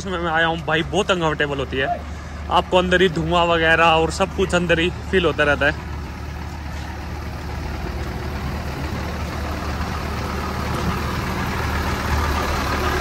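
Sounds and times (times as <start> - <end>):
rail car engine idling: 0.0 - 13.0.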